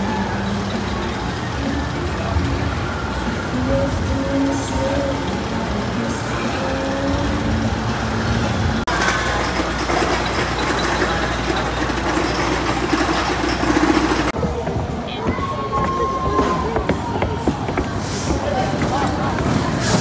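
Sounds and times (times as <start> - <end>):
roller coaster rumbling on track: 0.0 - 20.0.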